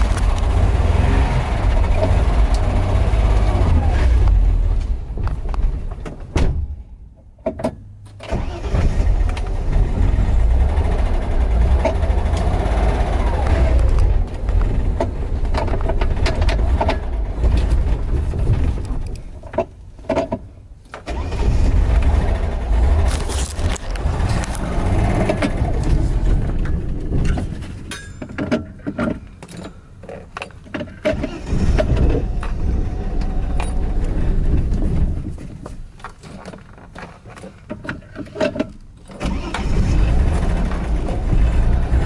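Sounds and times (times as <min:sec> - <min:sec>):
car engine rumble: 0:00.0 - 0:42.0.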